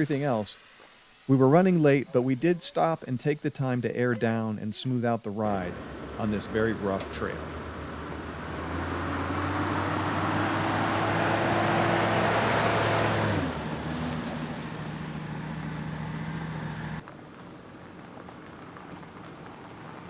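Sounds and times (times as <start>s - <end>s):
off-road vehicle engine: 0.0s - 20.0s
tyres on dirt trail: 0.0s - 20.0s.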